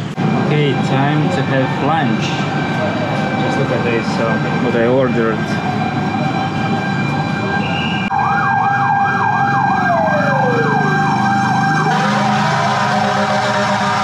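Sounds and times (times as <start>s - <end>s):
emergency siren yelp and wail: 0.0s - 14.0s
street traffic: 0.0s - 14.0s.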